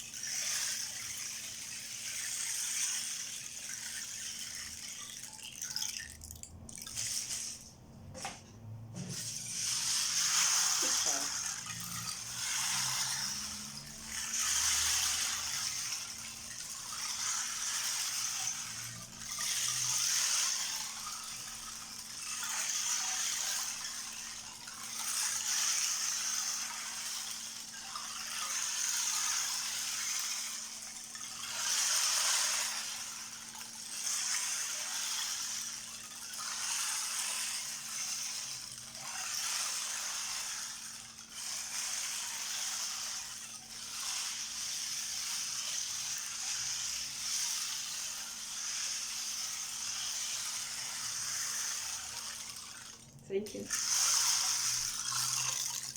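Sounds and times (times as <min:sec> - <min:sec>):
rain drum beads rolling: 0:00.0 - 0:55.9.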